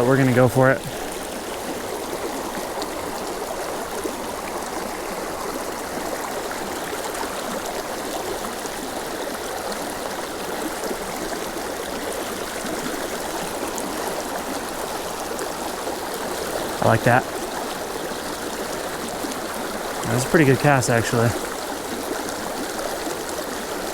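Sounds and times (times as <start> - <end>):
creek running over rapids: 0.0 - 23.9.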